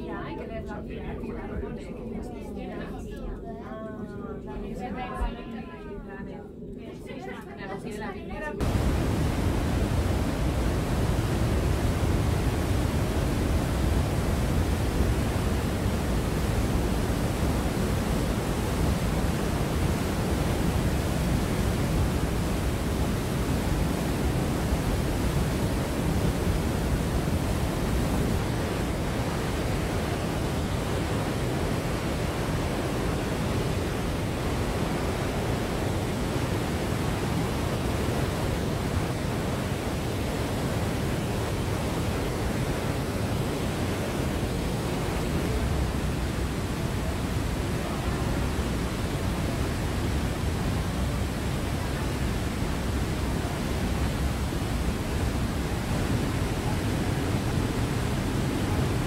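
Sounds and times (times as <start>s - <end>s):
water rushing through rock gorge: 8.6s - 59.0s.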